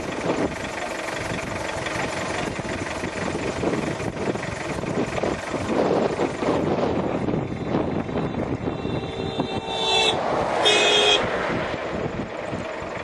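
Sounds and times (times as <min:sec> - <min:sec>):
road noise: 0:00.0 - 0:13.0
vehicle engine: 0:00.0 - 0:13.0.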